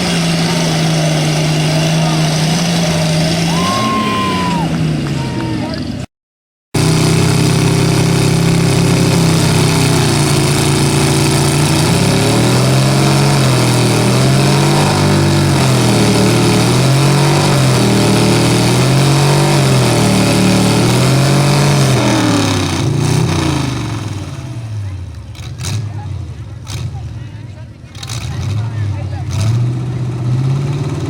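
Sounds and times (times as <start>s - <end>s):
truck engine under load: 0.0s - 6.1s, 6.8s - 31.0s.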